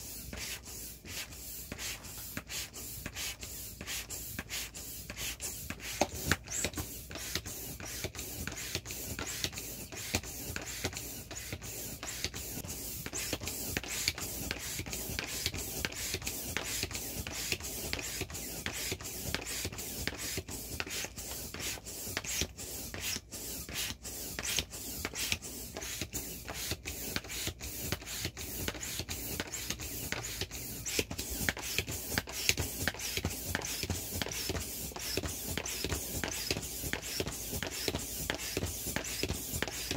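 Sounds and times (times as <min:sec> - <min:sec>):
air pump hissing: 0:00.0 - 0:39.9.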